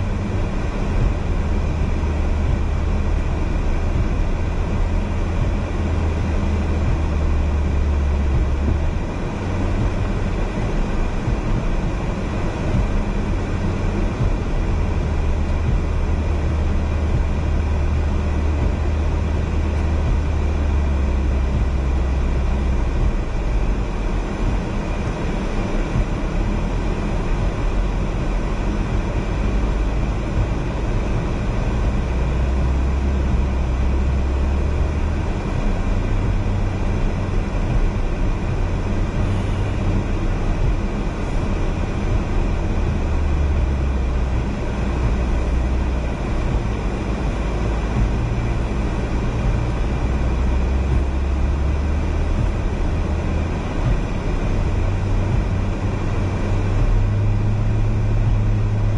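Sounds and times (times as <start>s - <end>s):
car engine and tyre rumble: 0.0s - 58.9s.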